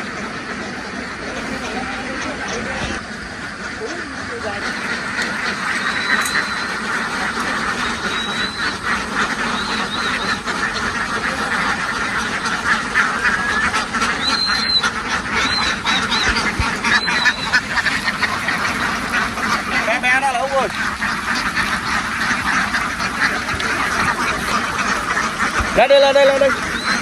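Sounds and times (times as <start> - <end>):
flock of ducks quacking: 0.0 - 27.0.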